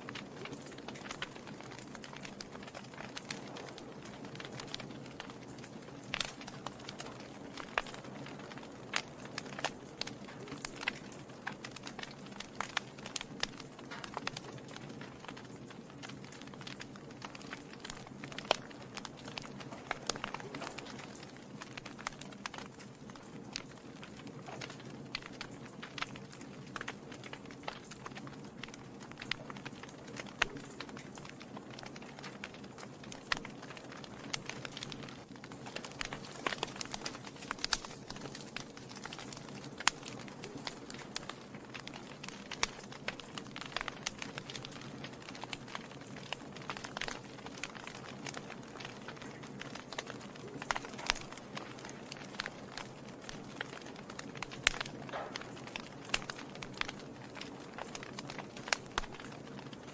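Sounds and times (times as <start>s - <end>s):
logs crackling and popping: 0.0s - 59.9s
low rush of flames: 0.0s - 59.9s.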